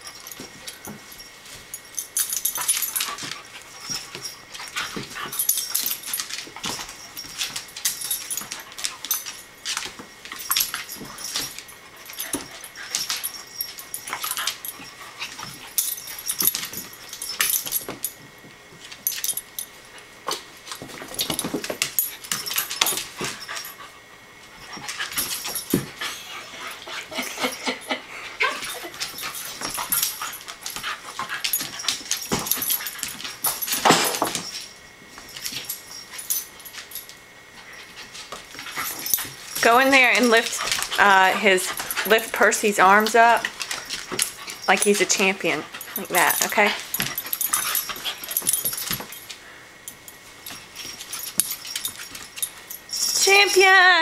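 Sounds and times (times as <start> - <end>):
paws scrabbling on vinyl floor: 0.0 - 27.6, 28.4 - 53.1.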